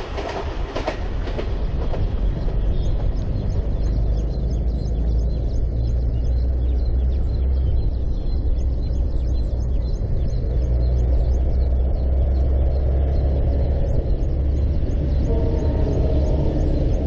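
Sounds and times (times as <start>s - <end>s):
low rumble: 0.0s - 17.0s
small birds chirping: 0.2s - 17.0s.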